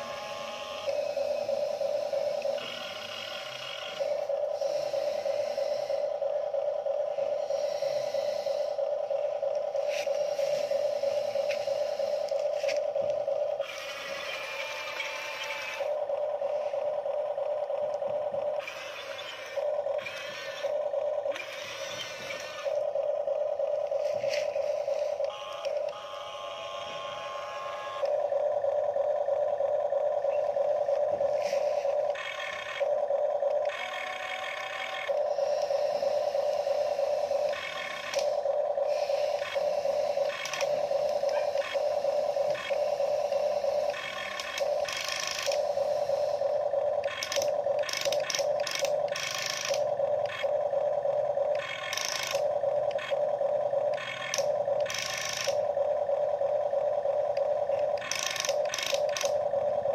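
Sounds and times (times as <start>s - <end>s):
gear clicks and scrapes: 0.0s - 59.9s
toy electric motors whining: 0.0s - 59.9s.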